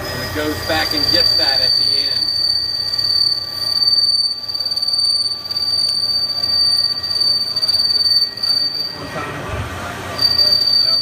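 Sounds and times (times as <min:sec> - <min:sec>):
lathe tool squealing: 0:00.0 - 0:09.2, 0:10.2 - 0:11.0.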